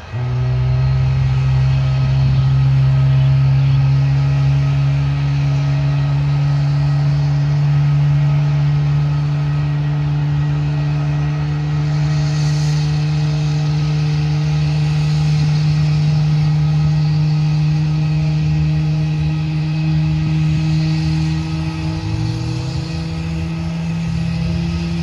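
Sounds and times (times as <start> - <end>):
loud engine drone: 0.0 - 25.0.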